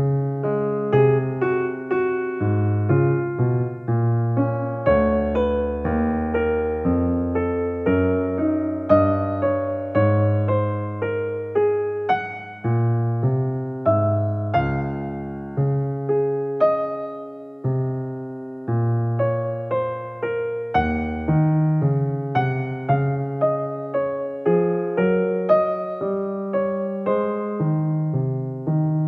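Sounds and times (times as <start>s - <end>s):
slow gentle piano melody: 0.0s - 29.0s.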